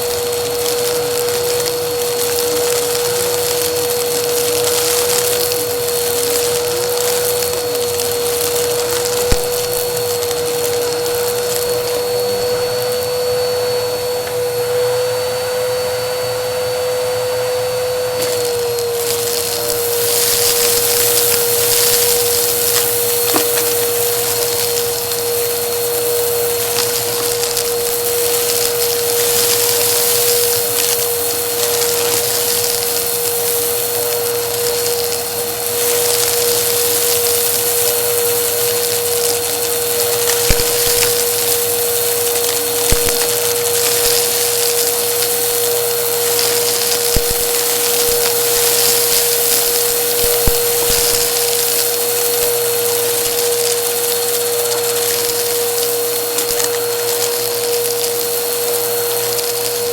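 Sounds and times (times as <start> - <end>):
debris crackling in vacuum: 0.0 - 59.9
vacuum cleaner running on a rug: 0.0 - 59.9.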